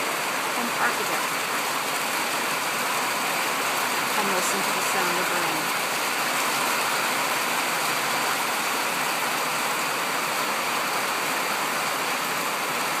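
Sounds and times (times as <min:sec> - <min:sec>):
heavy rain on plastic roof: 0:00.0 - 0:13.0.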